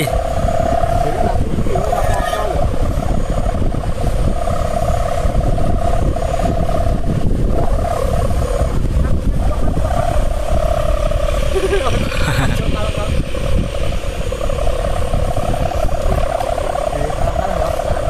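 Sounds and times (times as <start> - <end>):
wavering droning hum: 0.0 - 18.0
wind buffeting microphone: 0.0 - 18.0.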